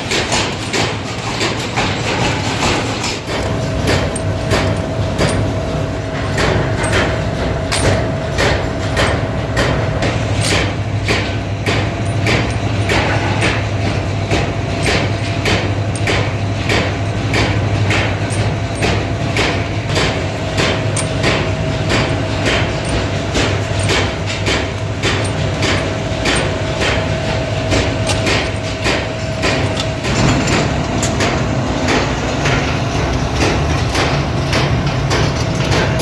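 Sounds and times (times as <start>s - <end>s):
workshop machinery hum: 0.0s - 36.0s.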